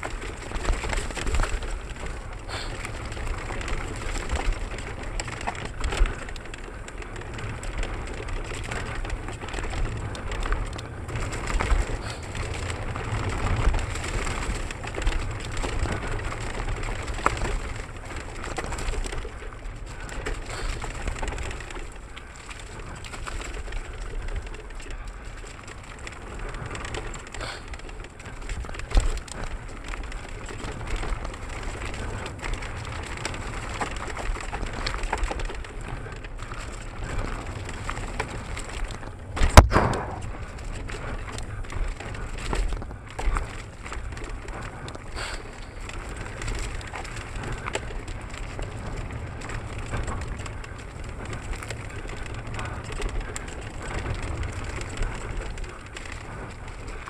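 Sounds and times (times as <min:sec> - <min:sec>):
bike rattling: 0:00.0 - 0:57.0
bike tyres rolling on dirt: 0:00.0 - 0:57.0
wind rumble on microphone: 0:00.0 - 0:57.0.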